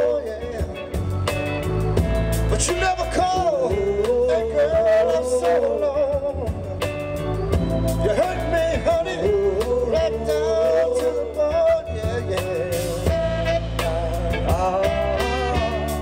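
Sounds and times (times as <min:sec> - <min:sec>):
soul song with men singing: 0:00.0 - 0:16.0.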